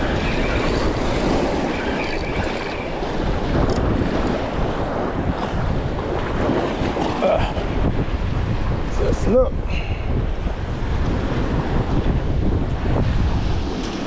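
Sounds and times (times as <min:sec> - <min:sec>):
surf washing against jetty: 0:00.0 - 0:14.0
wind buffeting microphone: 0:00.0 - 0:14.0.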